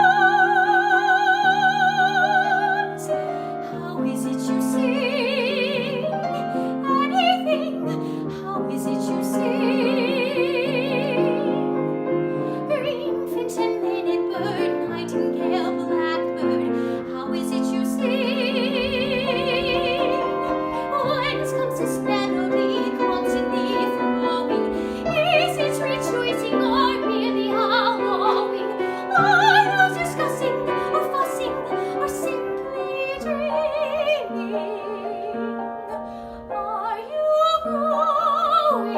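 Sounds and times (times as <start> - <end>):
piano accompaniment: 0.0 - 38.9
soprano singing: 0.0 - 38.9.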